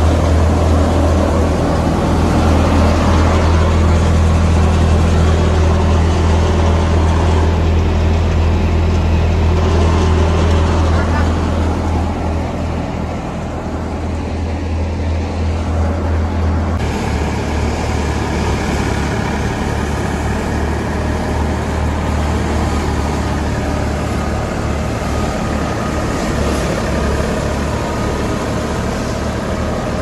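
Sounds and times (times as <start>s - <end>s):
thresher machine running: 0.0s - 14.3s, 15.1s - 30.0s.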